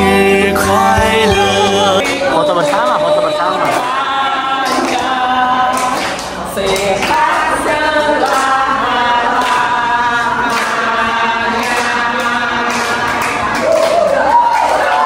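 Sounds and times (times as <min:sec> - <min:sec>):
women singing in unison: 0:00.0 - 0:15.0.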